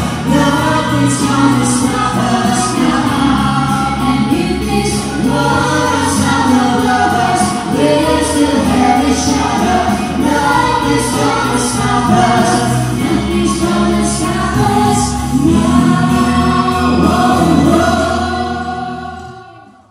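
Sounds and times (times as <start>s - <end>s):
group singing in harmony: 0.0s - 19.9s
keyboard accompaniment: 0.0s - 19.9s.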